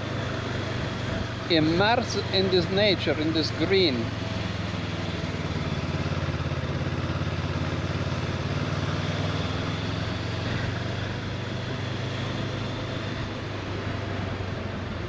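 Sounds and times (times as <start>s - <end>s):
motorcycle engine cruising: 0.0s - 15.0s
road noise: 0.0s - 15.0s.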